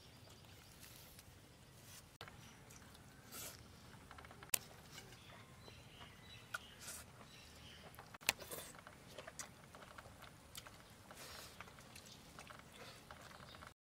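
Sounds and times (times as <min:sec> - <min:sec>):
soft chewing: 0:00.2 - 0:13.7.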